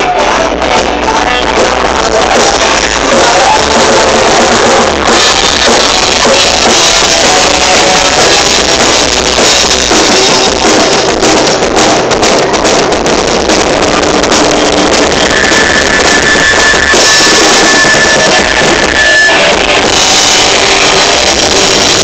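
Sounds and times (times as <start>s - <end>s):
drum kit: 0.0s - 22.0s
live rock band playing: 0.0s - 22.0s.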